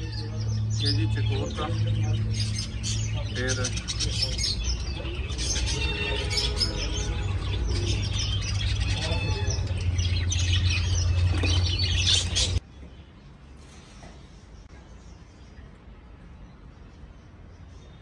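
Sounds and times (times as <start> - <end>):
cage birds chirping: 0.0 - 18.0.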